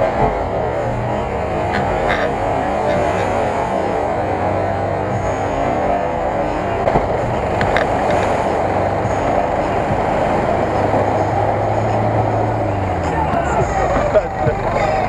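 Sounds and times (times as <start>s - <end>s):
car engine running under load: 0.0s - 15.0s
tyres throwing mud and water: 0.0s - 15.0s.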